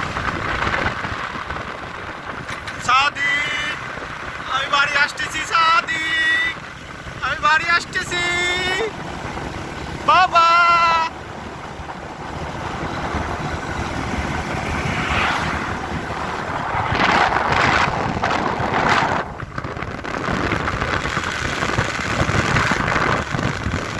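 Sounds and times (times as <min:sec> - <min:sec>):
vehicle noise: 0:00.0 - 0:23.9
wind rushing over microphone: 0:00.0 - 0:23.9.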